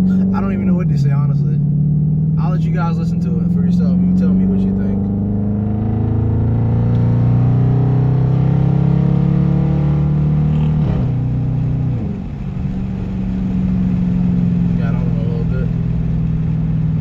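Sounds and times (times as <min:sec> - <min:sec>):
deep car exhaust note: 0:00.0 - 0:17.0.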